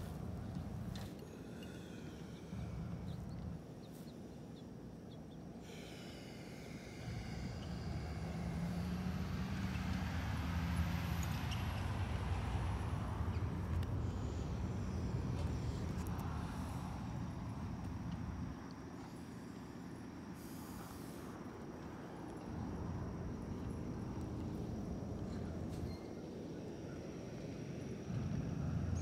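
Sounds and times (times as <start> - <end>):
vehicle engine and tyre noise: 0.0 - 4.2, 5.6 - 29.0.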